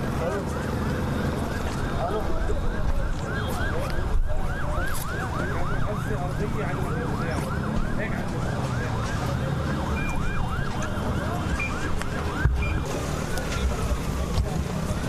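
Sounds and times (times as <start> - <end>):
emergency siren yelping: 0.0 - 15.0.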